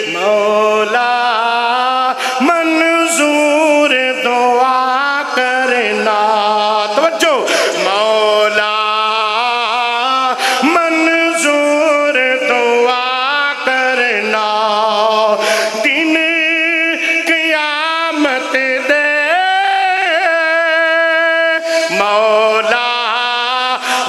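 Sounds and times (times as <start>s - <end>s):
man singing: 0.0s - 24.0s.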